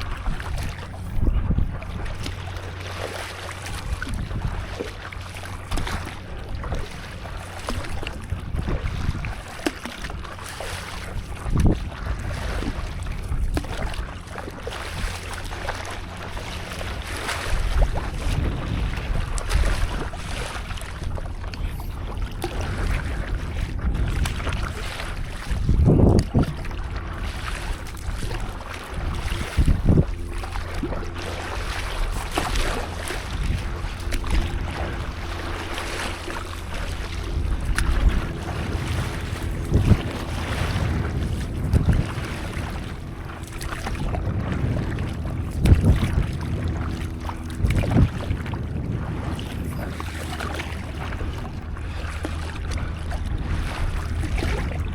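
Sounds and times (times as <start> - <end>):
water lapping and splashing: 0.0 - 54.9
wind rumbling on microphone: 0.0 - 54.9.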